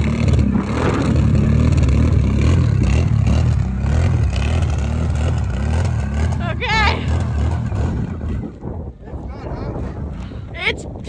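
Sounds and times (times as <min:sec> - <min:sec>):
quad bike engine revving: 0:00.0 - 0:08.9.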